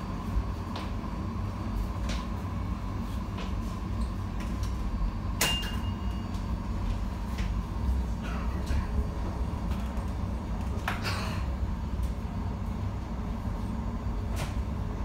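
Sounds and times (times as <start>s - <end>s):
tram rumble: 0.0s - 15.0s.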